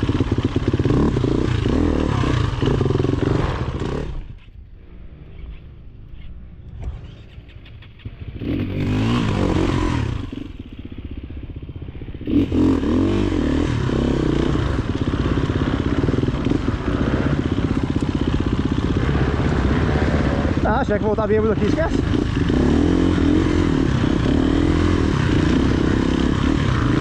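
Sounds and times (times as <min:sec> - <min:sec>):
motorcycle engine revving: 0:00.0 - 0:05.8, 0:06.7 - 0:27.0.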